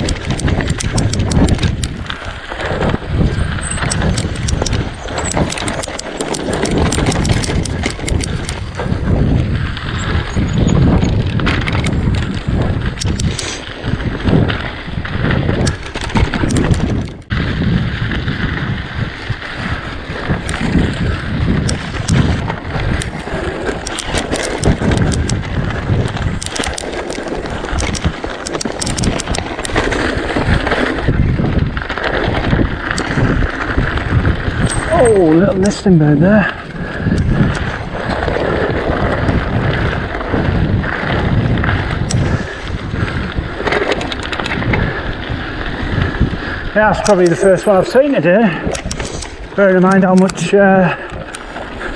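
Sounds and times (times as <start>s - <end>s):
bike rattling and clattering: 0.0s - 51.9s
tyres rumbling on dirt and stones: 0.0s - 51.9s
wind noise on microphone: 0.0s - 51.9s.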